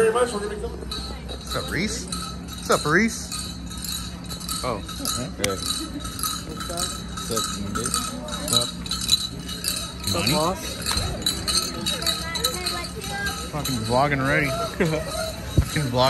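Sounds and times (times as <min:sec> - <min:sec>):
faint voices: 0:00.0 - 0:16.0
metal jingles and bells shaking: 0:00.0 - 0:16.0.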